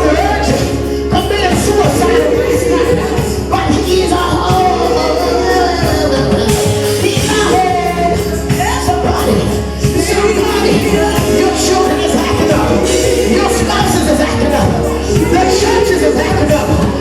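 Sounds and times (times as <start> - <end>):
gospel band playing: 0.0 - 17.0
people singing: 0.0 - 17.0.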